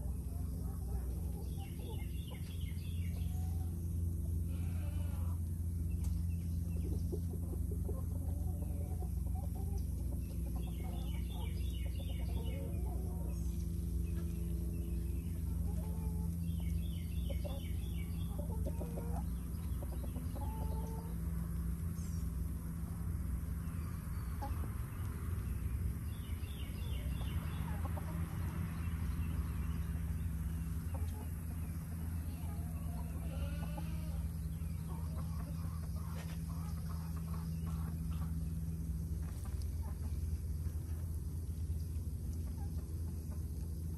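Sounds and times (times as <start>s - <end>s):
chickens clucking: 0.0s - 43.9s
steady low hum: 0.0s - 43.9s.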